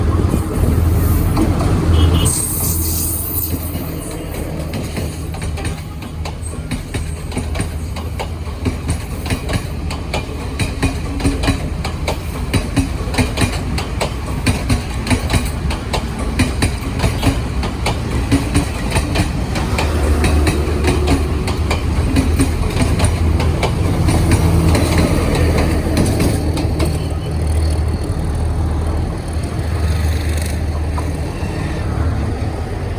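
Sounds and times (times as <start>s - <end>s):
train low drone: 0.0s - 32.9s
wheels clicking over rail joints: 3.2s - 32.9s.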